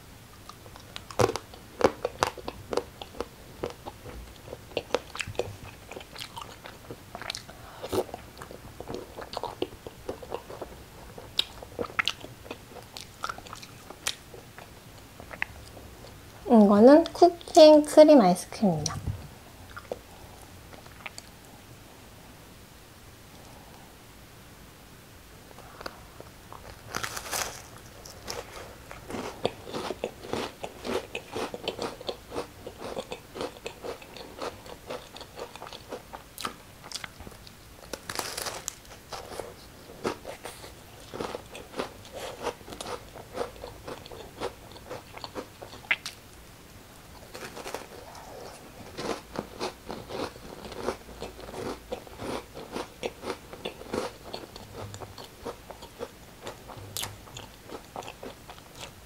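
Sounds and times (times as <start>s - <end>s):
crunching and chewing: 0.3s - 16.2s, 19.7s - 21.4s, 25.5s - 46.2s, 47.1s - 59.0s.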